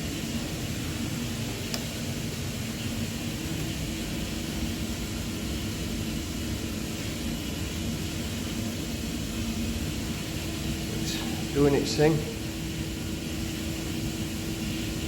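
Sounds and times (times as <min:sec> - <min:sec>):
gas boiler burner and fan humming: 0:00.0 - 0:15.0.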